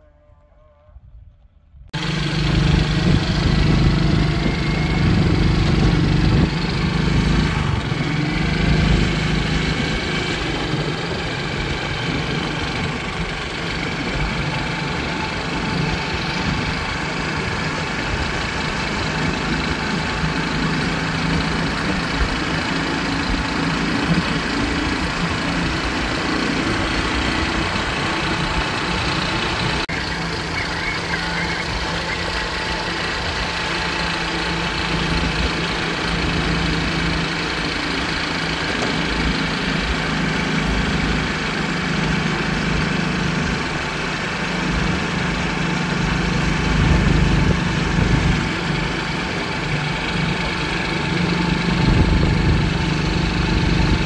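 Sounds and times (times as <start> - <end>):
motorcycle engine running: 2.0 - 54.0.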